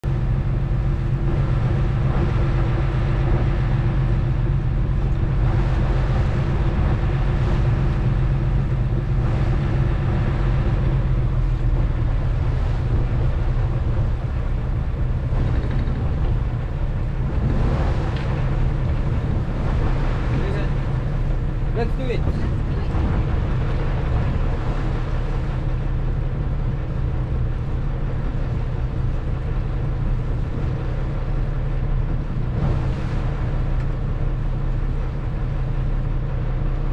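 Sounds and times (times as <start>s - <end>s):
boat engine humming: 0.0s - 36.9s
water washing along hull: 0.0s - 36.9s.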